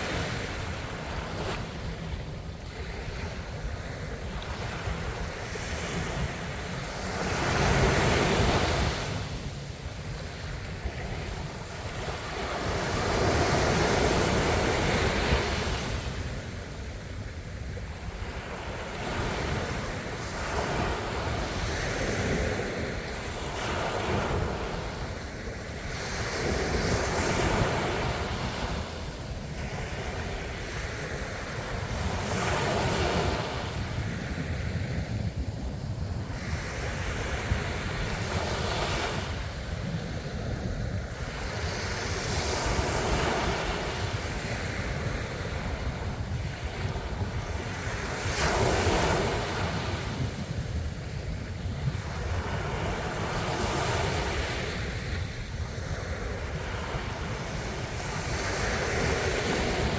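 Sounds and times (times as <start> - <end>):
low rumble of surf: 0.0 - 59.9
ocean waves breaking on shore: 0.0 - 59.9
wind buffeting microphone: 0.0 - 59.9.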